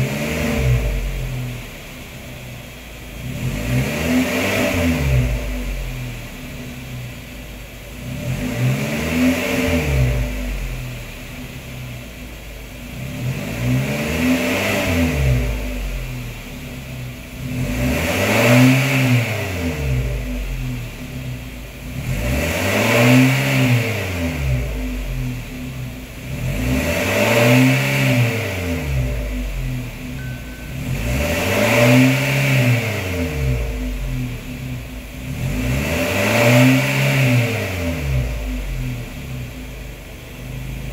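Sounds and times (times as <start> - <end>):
van engine revving: 0.0 - 40.9.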